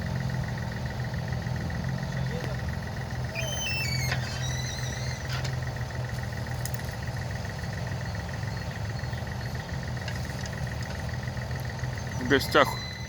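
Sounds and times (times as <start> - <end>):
construction machine engine droning: 0.0 - 13.0.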